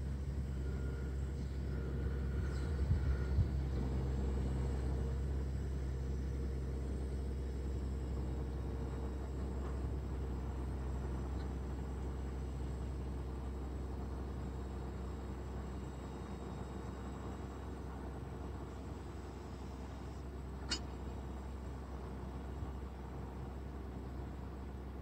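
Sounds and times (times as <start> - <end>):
tractor engine rumbling: 0.0 - 25.0.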